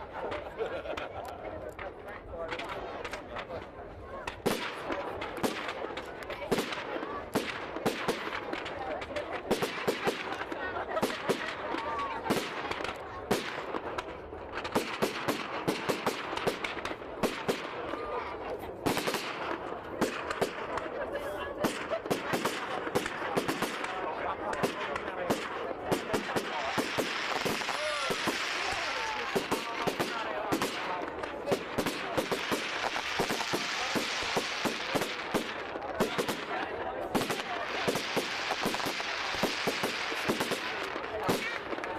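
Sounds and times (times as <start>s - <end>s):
fireworks banging: 1.7s - 41.9s.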